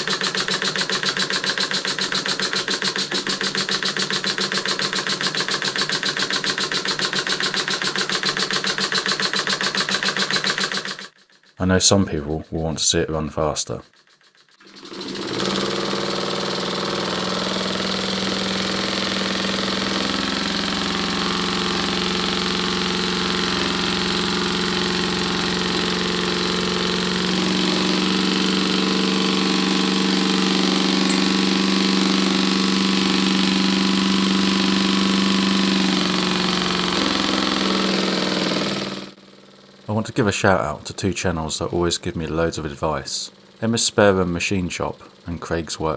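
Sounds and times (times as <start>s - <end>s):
small air engine buzzing: 0.0s - 11.5s, 14.1s - 39.9s.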